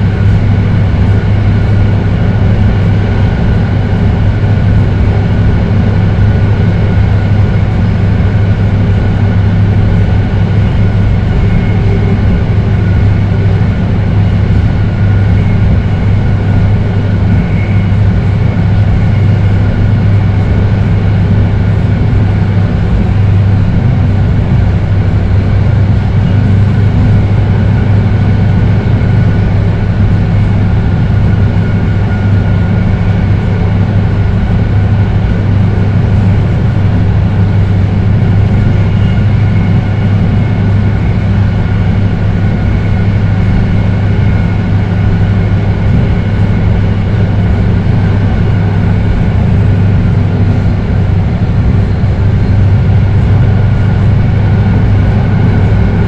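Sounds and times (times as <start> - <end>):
faint high motor whine: 0.0 - 56.0
train rumbling on rails: 0.0 - 56.0.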